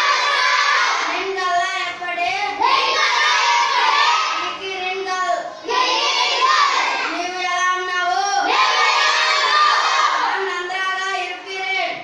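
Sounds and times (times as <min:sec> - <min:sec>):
child chanting in sing-song: 0:00.0 - 0:12.0.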